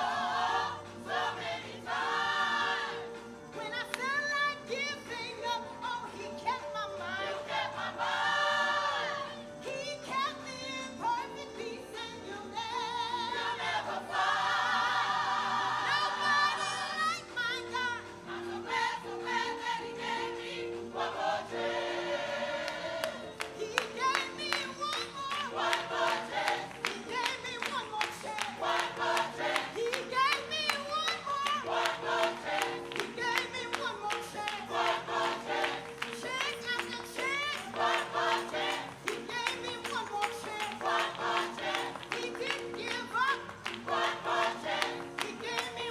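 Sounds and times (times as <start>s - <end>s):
gospel choir singing: 0.0s - 45.9s.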